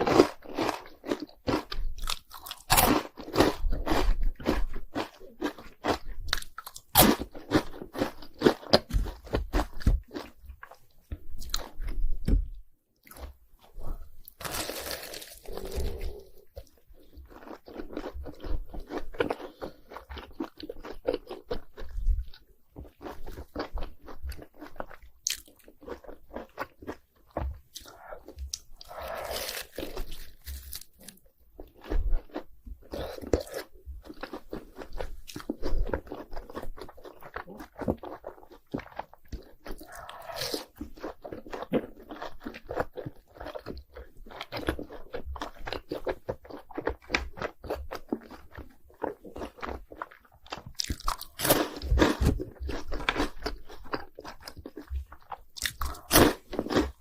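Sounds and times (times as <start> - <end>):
crunching and chewing snacks: 0.0 - 12.1, 13.0 - 57.0.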